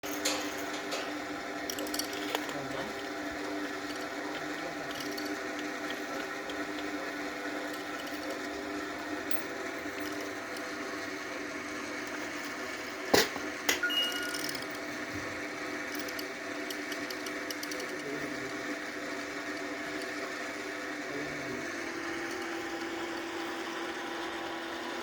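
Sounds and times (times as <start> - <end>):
hoist machinery drone: 0.0 - 25.0.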